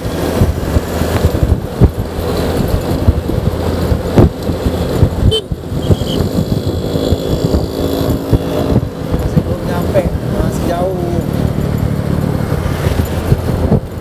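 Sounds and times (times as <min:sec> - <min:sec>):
scooter engine running: 0:00.0 - 0:14.0
wind buffeting microphone: 0:00.0 - 0:14.0.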